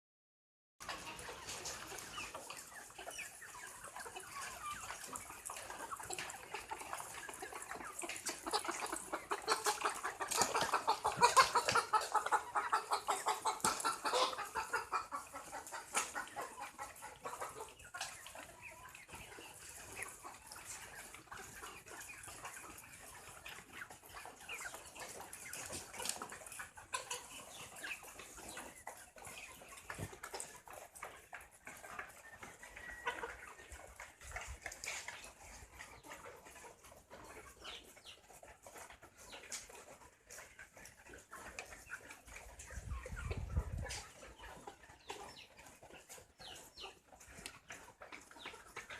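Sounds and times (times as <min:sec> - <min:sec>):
chickens clucking: 0:00.8 - 0:48.9.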